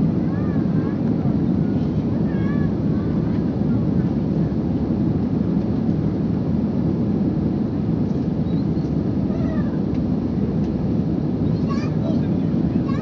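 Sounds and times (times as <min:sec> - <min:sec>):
jet engine roar in cabin: 0:00.0 - 0:13.0.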